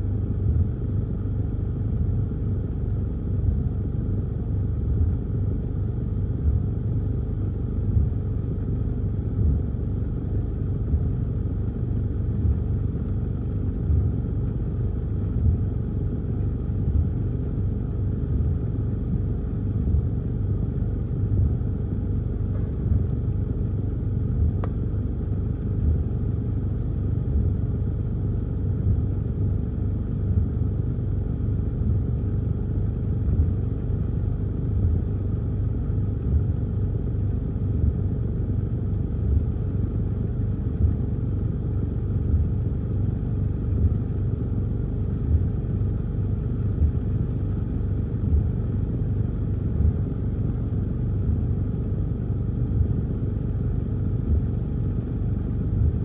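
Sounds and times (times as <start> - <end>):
car cabin rumble: 0.0 - 56.0.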